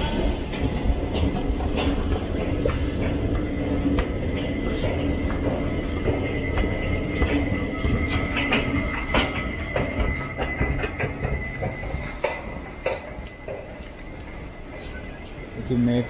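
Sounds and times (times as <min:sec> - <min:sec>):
train rumbling on rails: 0:00.0 - 0:16.0
wheels clicking and knocking: 0:00.1 - 0:14.8.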